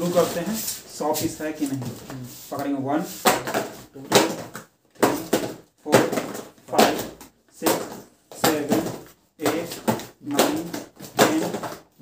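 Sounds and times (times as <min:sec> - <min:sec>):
man counting aloud: 0:00.0 - 0:11.8.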